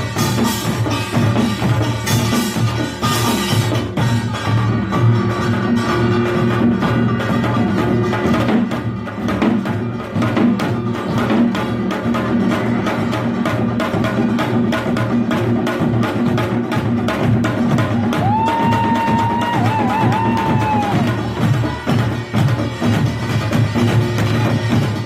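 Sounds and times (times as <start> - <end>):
booming drums: 0.0 - 25.0.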